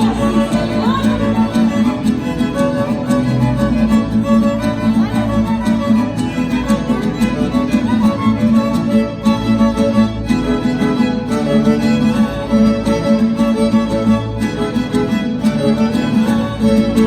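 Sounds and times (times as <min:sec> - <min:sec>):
steady bass line: 0:00.0 - 0:17.0
strummed guitar: 0:00.0 - 0:17.0
violins playing melody: 0:00.0 - 0:17.0.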